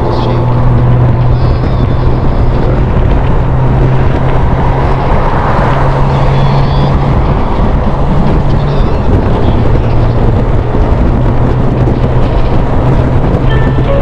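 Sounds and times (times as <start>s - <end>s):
motorcycle engine drone: 0.0s - 14.0s
wind rush on microphone: 0.0s - 14.0s.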